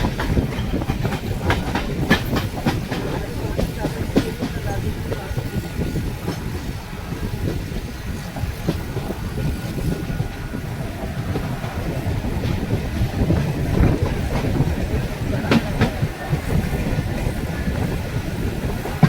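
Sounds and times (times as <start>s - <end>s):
electric train rumbling: 0.0s - 19.0s
wheels clanking over rail joints: 0.0s - 19.0s.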